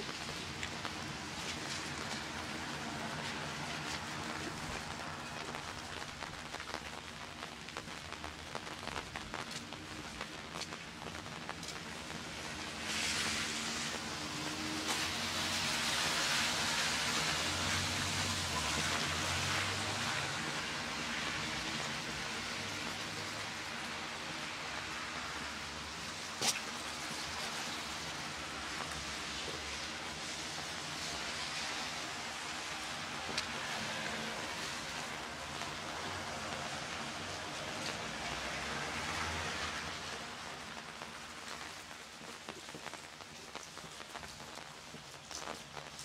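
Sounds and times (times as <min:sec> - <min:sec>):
light rain on wet pavement: 0:00.0 - 0:46.0.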